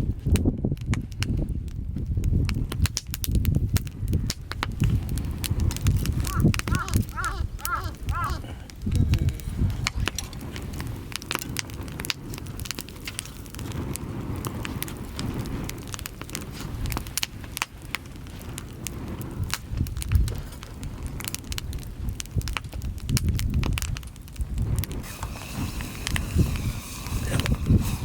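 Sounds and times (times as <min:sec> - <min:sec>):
firewood crackling and popping: 0:00.0 - 0:28.0
low rumble of fire: 0:00.0 - 0:28.0.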